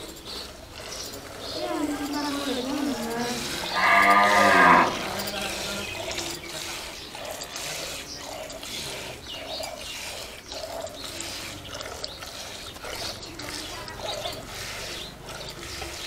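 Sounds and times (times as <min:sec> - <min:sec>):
milk squirting into a steel bucket: 0:00.0 - 0:16.0.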